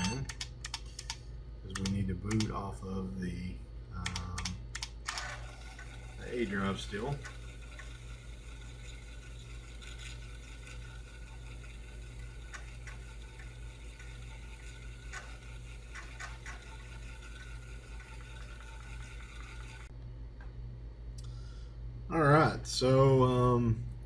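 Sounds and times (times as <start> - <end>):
computer fan hum and hiss: 0.0 - 24.0.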